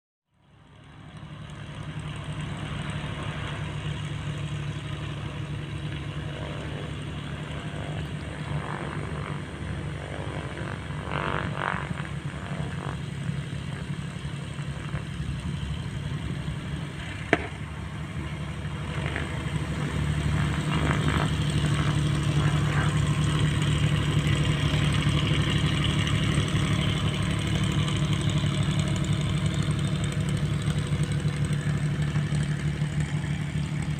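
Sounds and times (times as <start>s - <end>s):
aircraft engine running: 0.4s - 33.9s.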